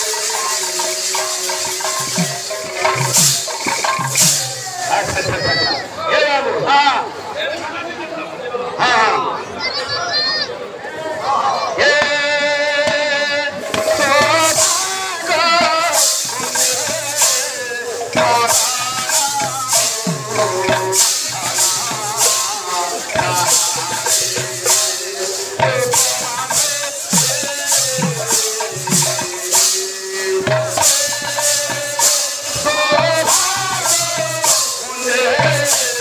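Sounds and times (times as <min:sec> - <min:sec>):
metal percussion beat: 0:00.0 - 0:05.9, 0:11.8 - 0:36.0.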